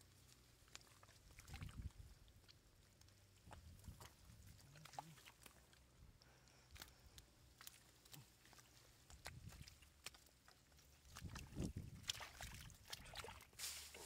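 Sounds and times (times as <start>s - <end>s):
wet mud squelching and slapping: 0.0s - 14.0s.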